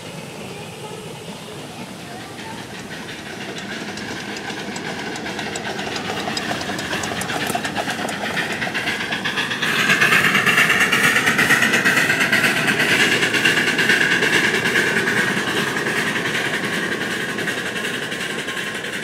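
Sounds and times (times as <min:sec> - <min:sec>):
steam hissing: 0:00.0 - 0:19.0
rapid even wheel clicks: 0:02.7 - 0:18.9.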